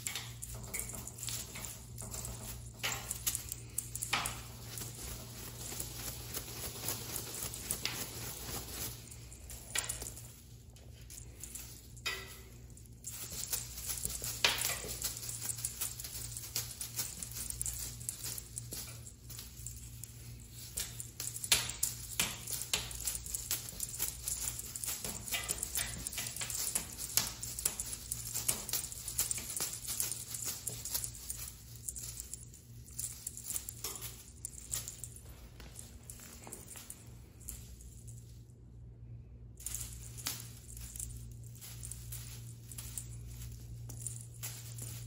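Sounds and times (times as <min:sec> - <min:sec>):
low steady hum: 0:00.0 - 0:45.0
tinsel toy rustling and clicking: 0:00.0 - 0:45.0.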